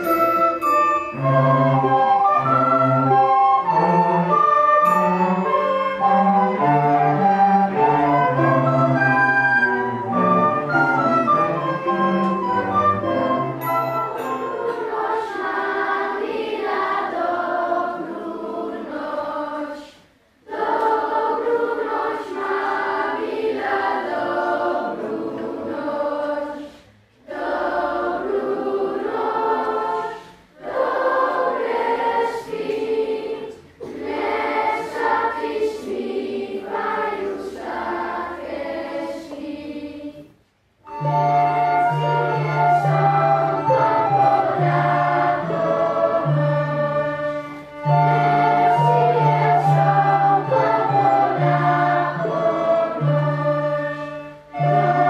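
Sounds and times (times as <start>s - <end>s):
orchestra of strings and woodwinds: 0.0s - 19.5s, 20.5s - 26.7s, 27.3s - 40.0s, 40.8s - 55.0s
children's choir singing: 0.0s - 55.0s.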